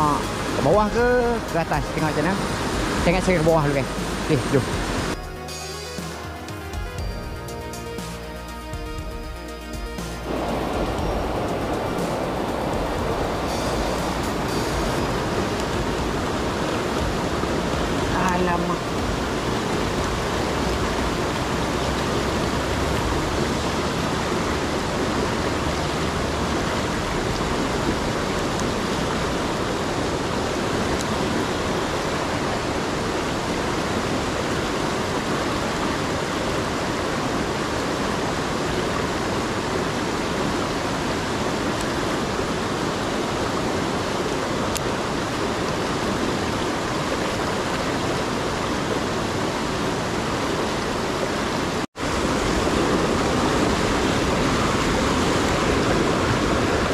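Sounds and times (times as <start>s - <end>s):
stream rushing over boulders: 0.0s - 56.9s.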